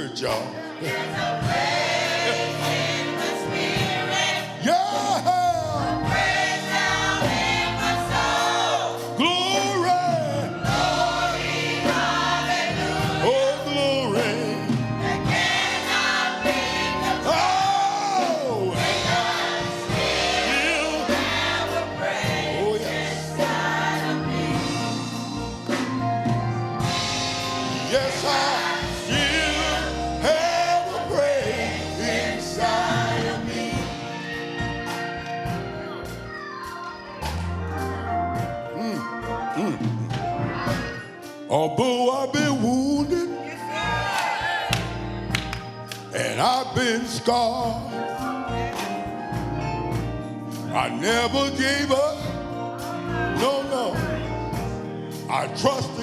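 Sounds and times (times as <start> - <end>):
band accompaniment: 0.0 - 56.0
gospel choir singing: 0.0 - 56.0.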